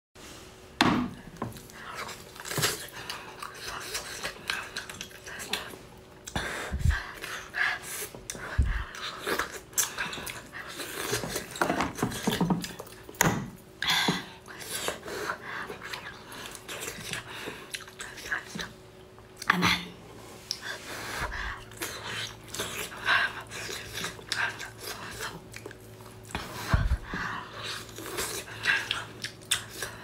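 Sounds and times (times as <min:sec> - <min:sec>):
wet mouth eating noises: 0:01.5 - 0:13.4, 0:14.6 - 0:20.7, 0:21.5 - 0:30.0.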